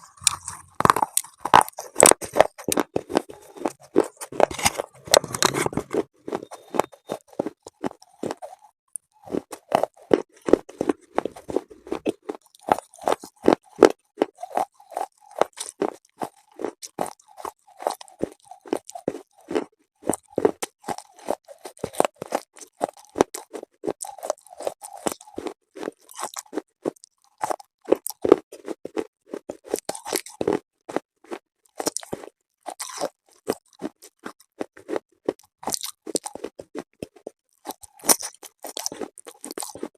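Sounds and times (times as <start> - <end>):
chewing brittle mineral pieces: 0.0 - 39.9.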